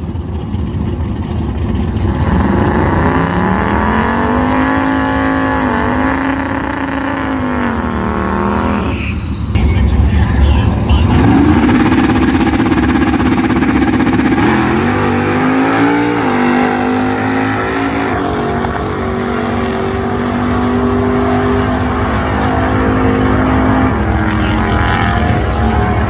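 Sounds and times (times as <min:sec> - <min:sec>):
drag racing cars accelerating: 0:00.2 - 0:26.0.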